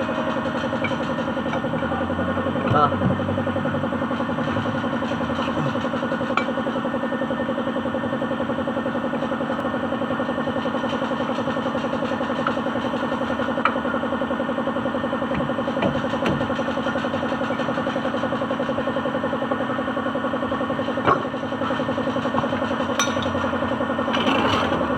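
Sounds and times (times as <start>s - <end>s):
truck engine droning: 0.0s - 24.9s.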